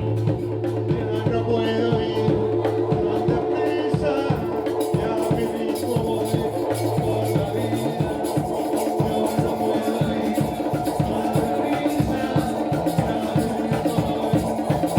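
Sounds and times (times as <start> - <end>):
hand-drum strikes: 0.0 - 14.9
live band playing uptempo groove: 0.0 - 14.9.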